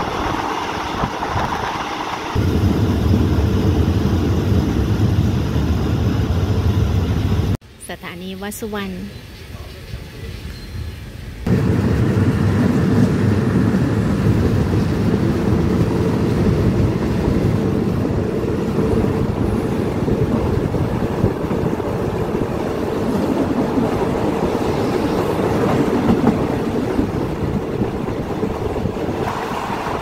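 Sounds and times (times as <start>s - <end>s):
train wheels rumbling on rails: 0.0s - 7.6s, 9.6s - 30.0s.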